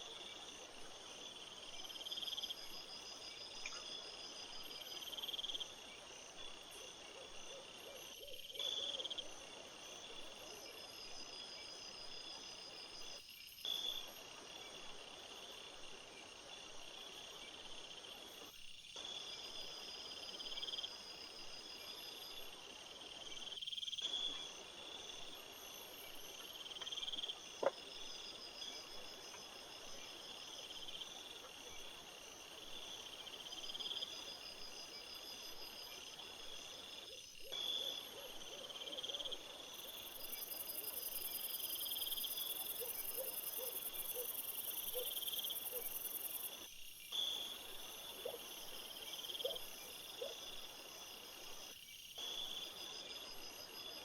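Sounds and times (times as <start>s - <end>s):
crickets and night insects chirping: 0.0s - 54.0s
high continuous insect trill: 0.0s - 54.0s.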